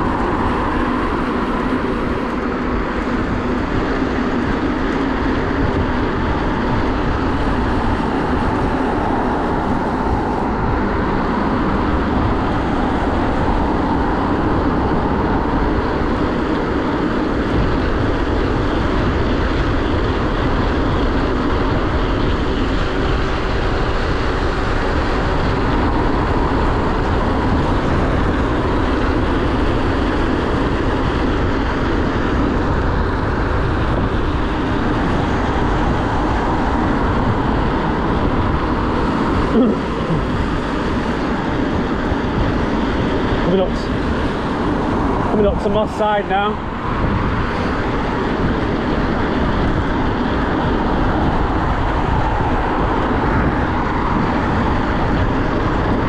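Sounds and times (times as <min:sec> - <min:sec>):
road noise: 0:00.0 - 0:56.0
traffic passing: 0:00.0 - 0:56.0
wind rush over microphone: 0:00.0 - 0:56.0.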